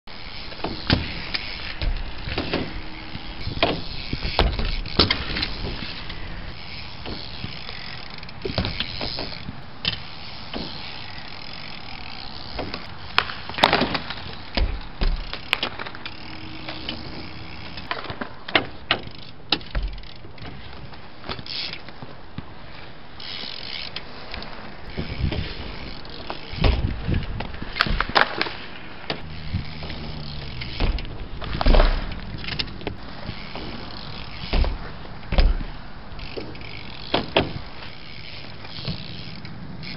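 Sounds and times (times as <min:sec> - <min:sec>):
bike tyres rolling on concrete: 0:00.1 - 0:39.9
bike wheels clacking and thudding: 0:00.1 - 0:39.9.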